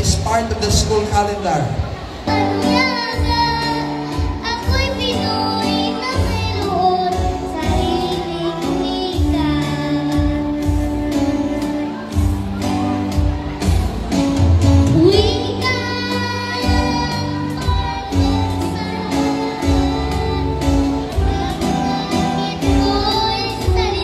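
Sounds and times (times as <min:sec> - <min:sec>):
backing music: 0:00.0 - 0:24.0
girl singing into a microphone: 0:02.2 - 0:13.8, 0:14.8 - 0:24.0.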